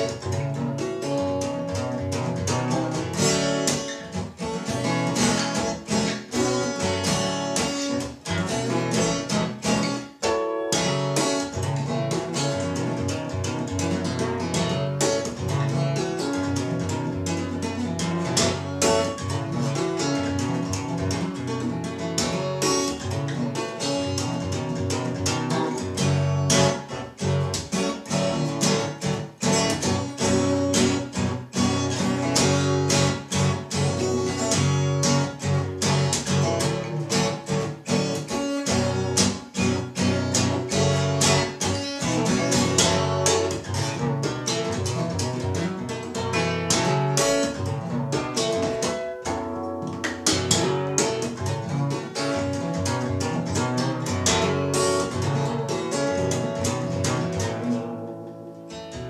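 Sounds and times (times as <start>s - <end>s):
percussive fingerstyle acoustic guitar: 0.0s - 59.0s.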